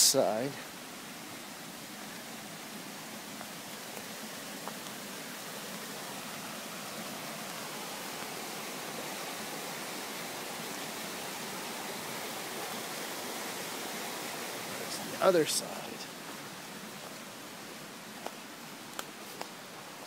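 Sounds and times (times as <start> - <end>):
creek rushing: 0.0 - 20.0.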